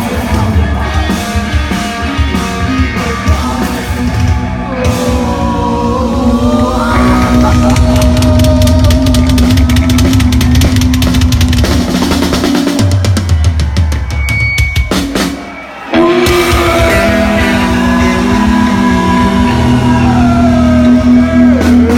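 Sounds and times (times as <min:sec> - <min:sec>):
electric guitar and bass: 0:00.0 - 0:21.9
fast pounding drums: 0:00.0 - 0:21.9
punk rock band playing live: 0:00.0 - 0:21.9.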